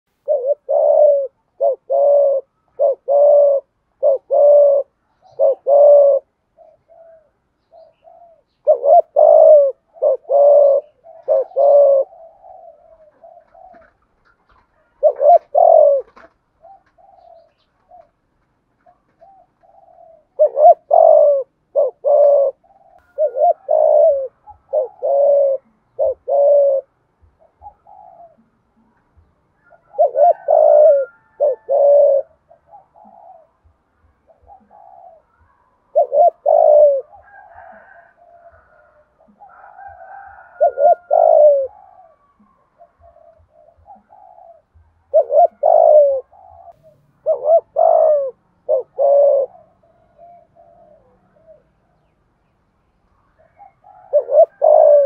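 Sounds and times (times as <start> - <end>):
dove cooing: 0.2 - 52.2, 53.3 - 55.0.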